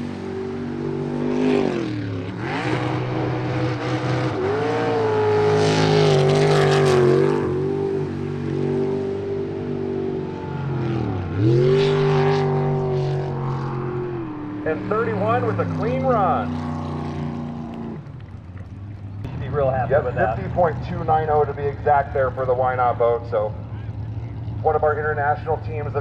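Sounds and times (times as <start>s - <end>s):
boat engine running hard: 0.0s - 26.0s.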